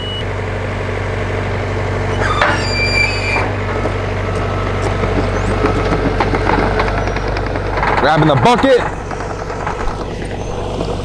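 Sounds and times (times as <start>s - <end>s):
engine idling: 0.0s - 11.0s
metallic screech and clank: 2.1s - 11.0s.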